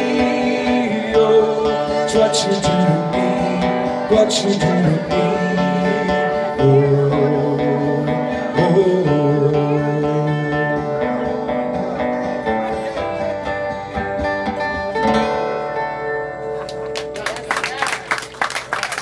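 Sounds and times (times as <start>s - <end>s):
acoustic string band playing: 0.0s - 17.2s.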